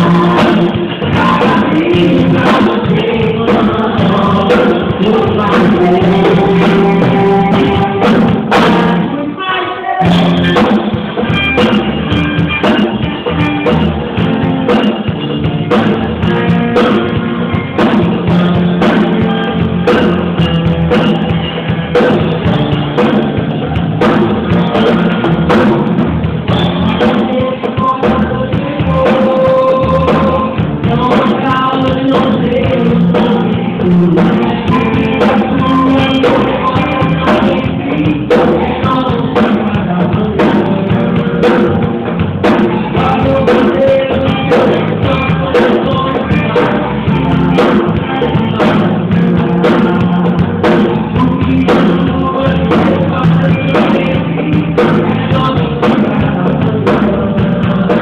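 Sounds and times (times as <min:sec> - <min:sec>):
drum kit beat: 0:00.0 - 0:09.3, 0:10.0 - 0:58.0
person singing: 0:00.0 - 0:14.3, 0:15.7 - 0:25.9, 0:26.5 - 0:58.0
worship band music: 0:00.0 - 0:58.0.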